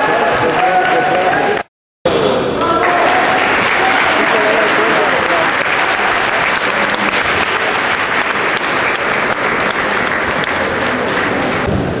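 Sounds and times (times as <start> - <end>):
crowd applauding: 0.0 - 1.7, 2.6 - 12.0.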